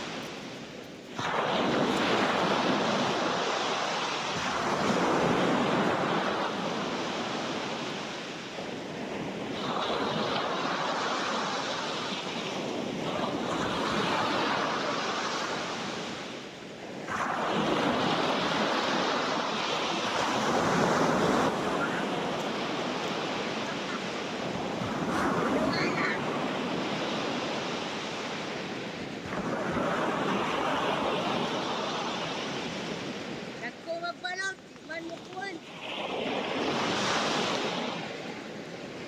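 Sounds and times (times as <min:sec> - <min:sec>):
sea waves breaking: 0:00.0 - 0:39.0.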